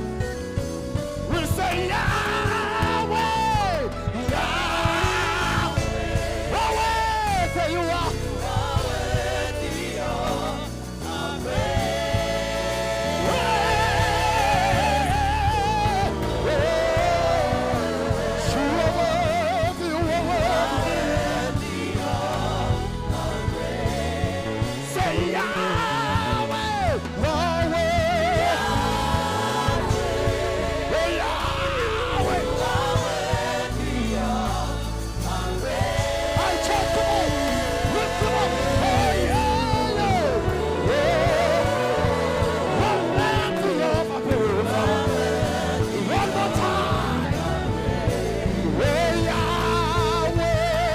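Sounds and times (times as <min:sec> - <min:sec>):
band with bass and keys: 0:00.0 - 0:50.9.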